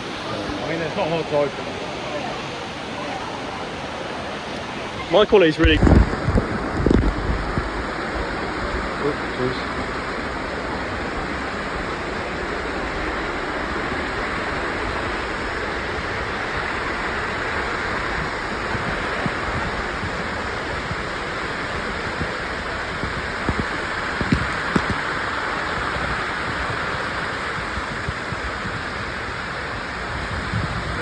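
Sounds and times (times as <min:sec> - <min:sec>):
falling water rushing: 0:00.0 - 0:31.0.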